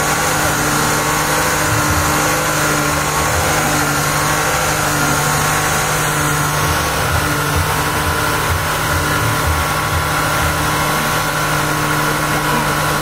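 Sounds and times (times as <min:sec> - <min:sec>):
car engine at steady revs: 0:00.0 - 0:13.0
tyres spinning on tarmac: 0:00.0 - 0:13.0.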